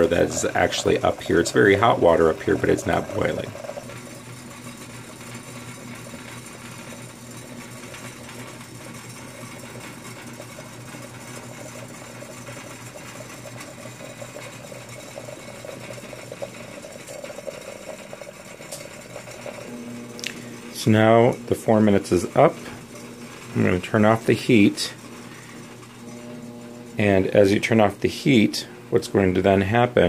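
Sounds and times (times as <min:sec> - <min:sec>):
coffee pot bubbling: 0:00.0 - 0:30.0
steady low hum: 0:00.0 - 0:30.0.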